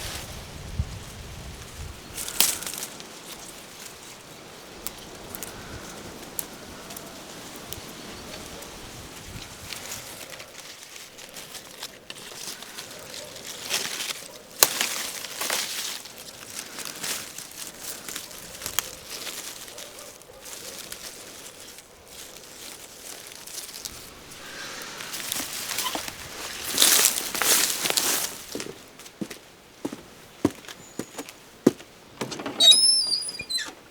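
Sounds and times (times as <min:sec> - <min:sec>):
rustling and crinkling: 0:00.0 - 0:33.9.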